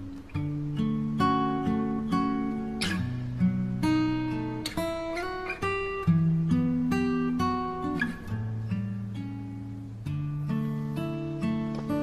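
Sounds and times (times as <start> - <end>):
plucked guitar music: 0.0 - 12.0.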